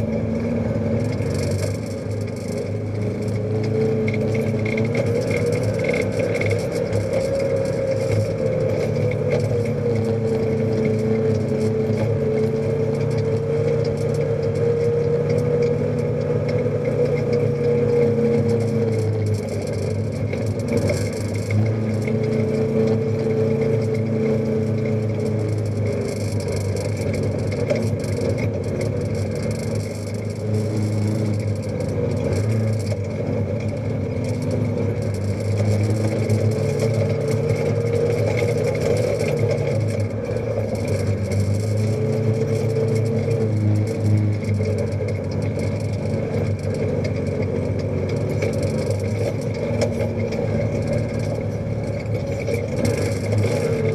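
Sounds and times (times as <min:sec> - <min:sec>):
utility vehicle engine running: 0:00.0 - 0:53.9.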